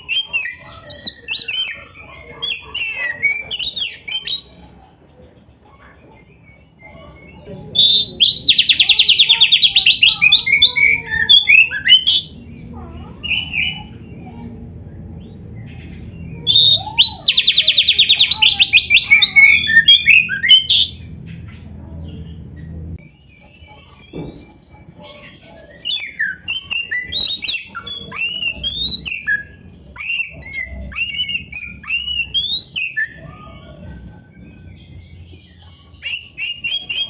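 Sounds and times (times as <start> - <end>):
bird singing trills and whistles: 0.0 - 37.0
quiet bird calls: 0.0 - 37.0.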